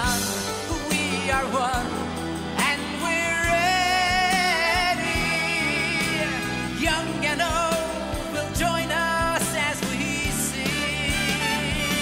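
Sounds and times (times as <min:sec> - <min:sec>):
pop song with held vocal note: 0:00.0 - 0:12.0.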